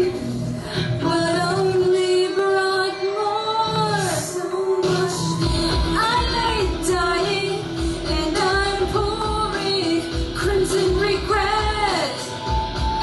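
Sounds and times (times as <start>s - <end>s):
backing track with steady beat: 0.0s - 13.0s
woman singing into microphone: 0.0s - 13.0s.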